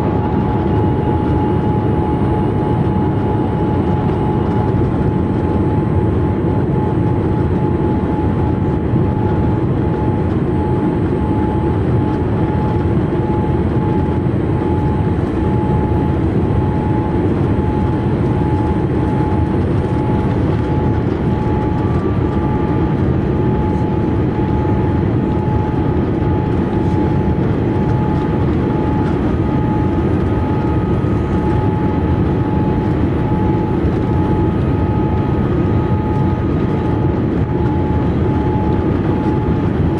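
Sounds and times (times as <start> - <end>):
fainter higher whine: 0.0 - 39.9
thin steady whine: 0.0 - 39.9.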